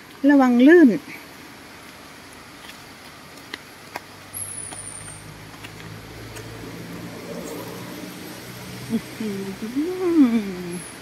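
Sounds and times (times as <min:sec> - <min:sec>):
engine humming: 0:01.3 - 0:11.0.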